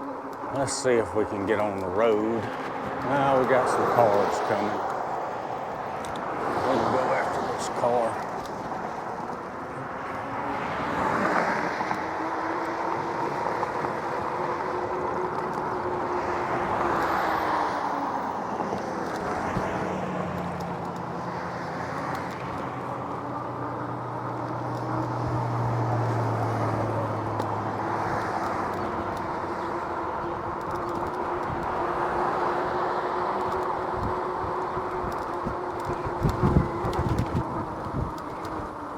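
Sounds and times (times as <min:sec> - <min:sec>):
electric hub-motor whine: 0:00.0 - 0:38.9
motor vehicle engine hum: 0:00.0 - 0:38.9
wind and tyre noise: 0:00.0 - 0:38.9.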